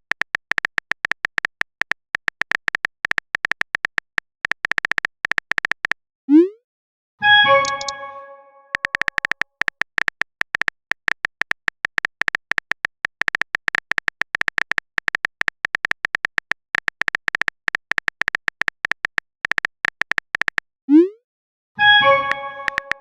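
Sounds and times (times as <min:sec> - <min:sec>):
phone keyboard typing clicks: 0:00.0 - 0:06.0, 0:07.5 - 0:08.1, 0:08.7 - 0:20.7, 0:22.0 - 0:23.0.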